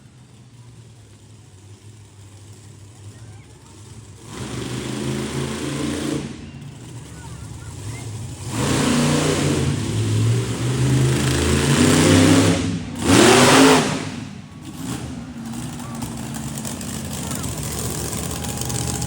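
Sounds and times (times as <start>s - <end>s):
engine revving: 3.7s - 19.0s.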